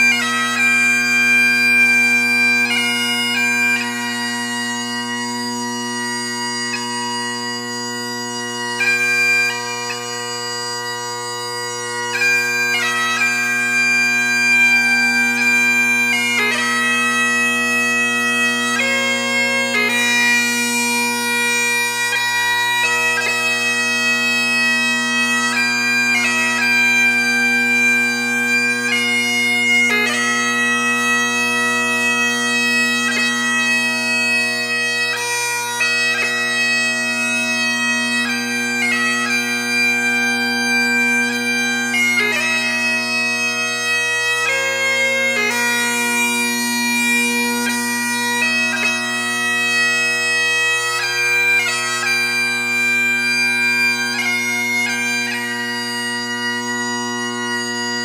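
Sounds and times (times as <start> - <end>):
bagpipe melody with drones: 0.0 - 58.0.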